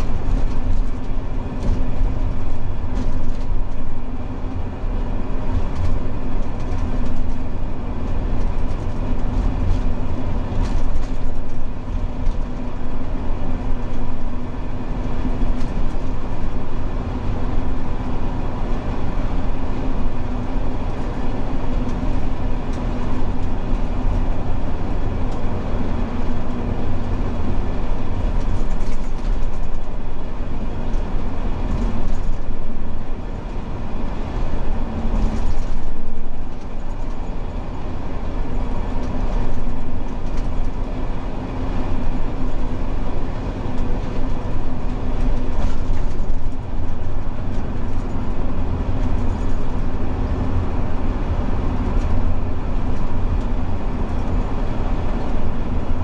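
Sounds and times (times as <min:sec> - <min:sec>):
bus engine drone: 0:00.0 - 0:56.0
tyre and road noise: 0:00.0 - 0:56.0.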